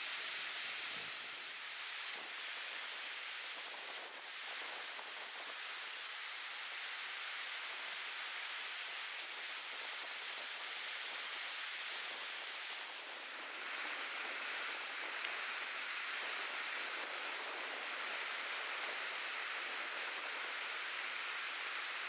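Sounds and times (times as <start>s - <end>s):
waves breaking on beach: 0.0s - 22.0s.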